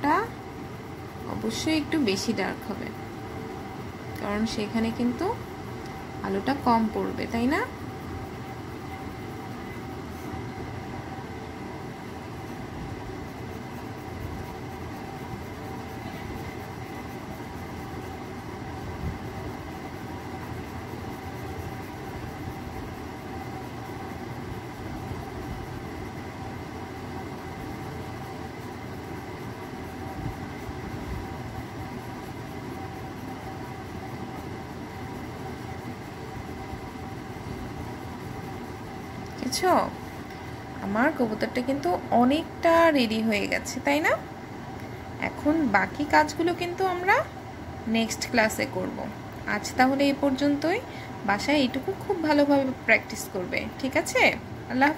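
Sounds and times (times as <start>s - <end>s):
machine hum and hiss: 0.0s - 54.9s.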